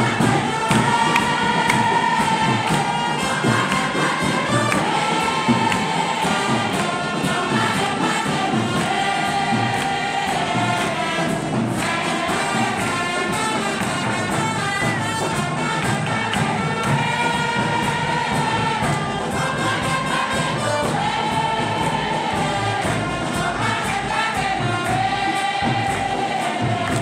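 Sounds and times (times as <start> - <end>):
choir and congregation singing: 0.0 - 27.0
percussion beat: 0.0 - 27.0.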